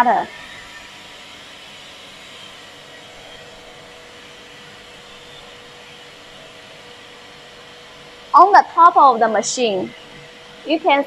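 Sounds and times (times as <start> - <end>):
machinery hum and hiss: 0.0 - 11.0.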